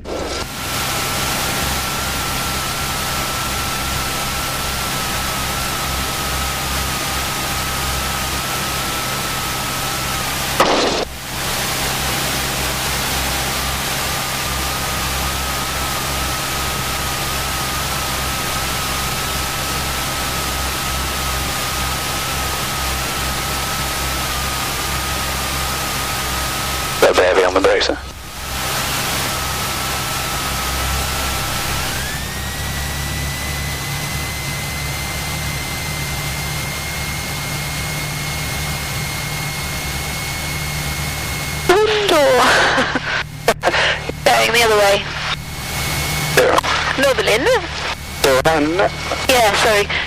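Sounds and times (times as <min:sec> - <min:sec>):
small plane engine drone: 0:00.0 - 0:50.0.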